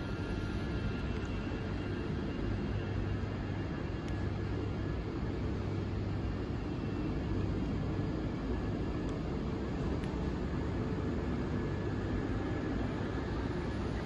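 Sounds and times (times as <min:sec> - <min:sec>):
electric train rumble on board: 0:00.0 - 0:14.0
faint steady whine: 0:00.0 - 0:14.0.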